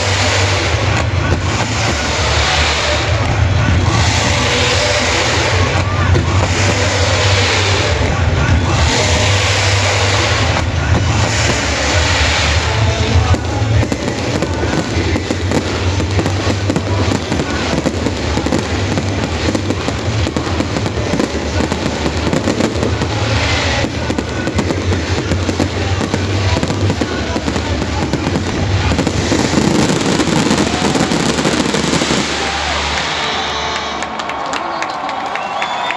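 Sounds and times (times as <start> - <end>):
fireworks bursting and crackling: 0.0 - 34.4
music playing: 0.0 - 35.5.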